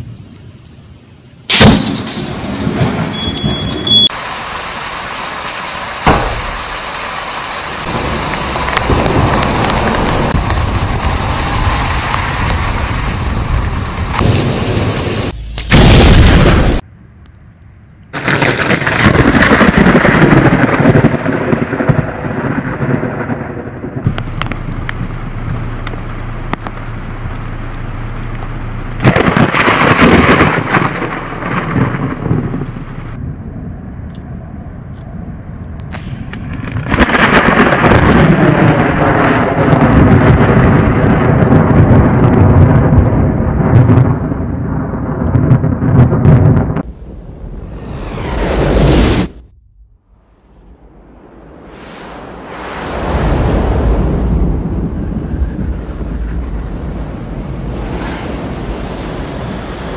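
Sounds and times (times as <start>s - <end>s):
thunderclaps and rumbles: 1.5s - 5.0s, 6.0s - 16.8s, 18.1s - 59.9s
heavy rain: 2.7s - 16.8s, 18.2s - 33.6s, 36.3s - 49.5s, 50.2s - 59.9s.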